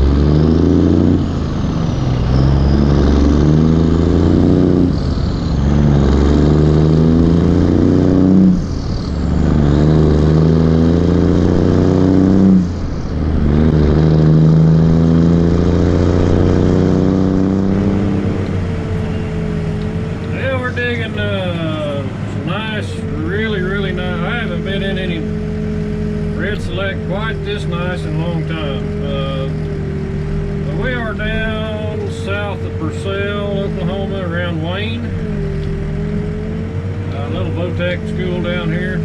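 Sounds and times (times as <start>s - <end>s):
backhoe diesel engine under load: 0.0s - 39.0s.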